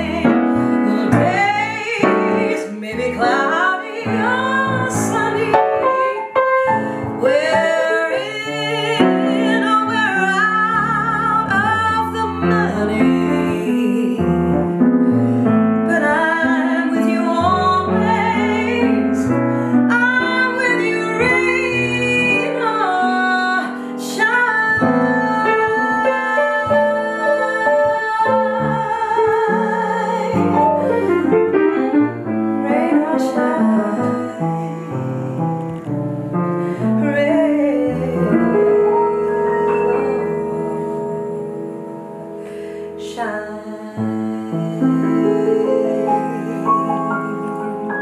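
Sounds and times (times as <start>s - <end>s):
woman singing: 0.0s - 15.2s, 15.8s - 35.4s, 36.6s - 41.9s, 42.9s - 48.0s
piano chords: 0.0s - 48.0s.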